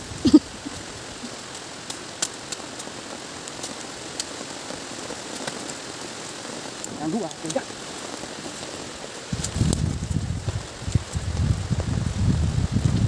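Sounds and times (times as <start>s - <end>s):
leaves and twigs rustling: 0.0s - 13.0s
steady hiss: 0.0s - 13.0s.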